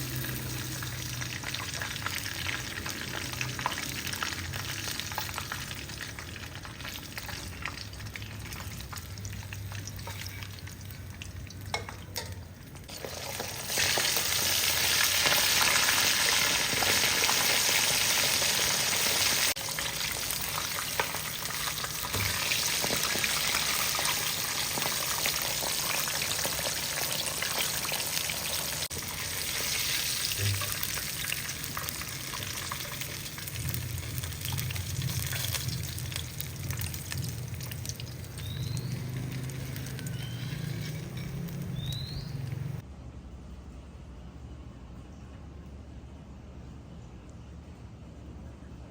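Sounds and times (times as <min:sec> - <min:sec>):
food sizzling in hot oil: 0:00.0 - 0:42.8.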